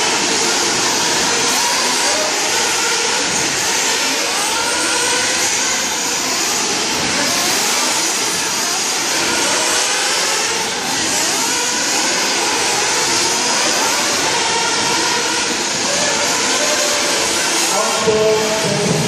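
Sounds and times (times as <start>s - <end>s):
rc car engines whining: 0.0s - 19.0s.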